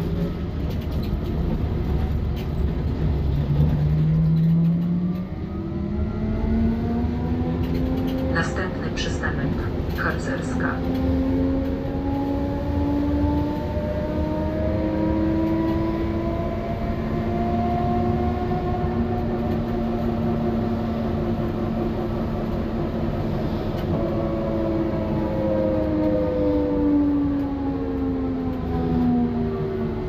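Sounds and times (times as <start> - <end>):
road rumble: 0.0 - 30.0.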